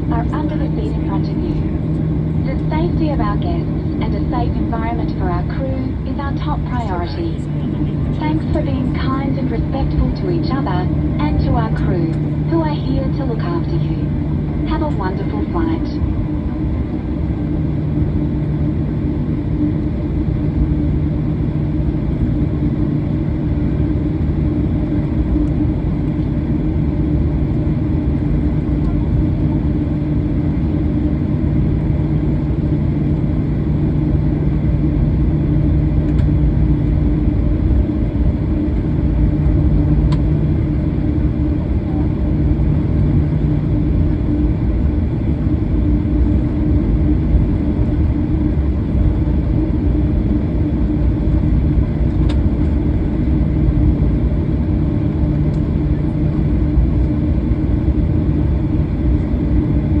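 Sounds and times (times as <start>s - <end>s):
airplane cabin rumble: 0.0s - 60.0s
constant hum: 0.0s - 60.0s
lower hum: 0.0s - 60.0s.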